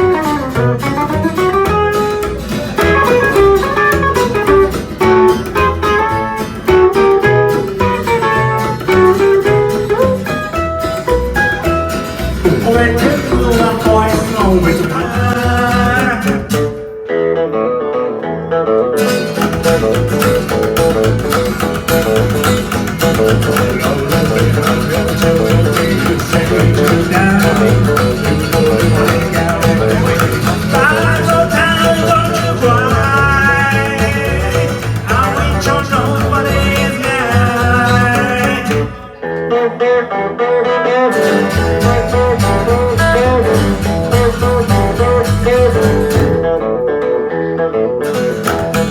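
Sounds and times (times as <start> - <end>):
bass guitar: 0.0 - 48.9
lead guitar: 0.0 - 48.9.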